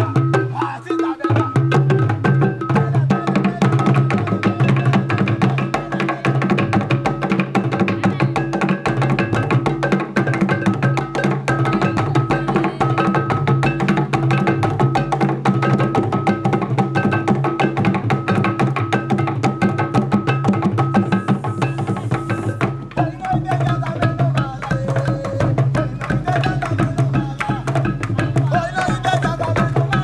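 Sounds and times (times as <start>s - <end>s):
fast wooden drum strokes: 0.0s - 30.0s.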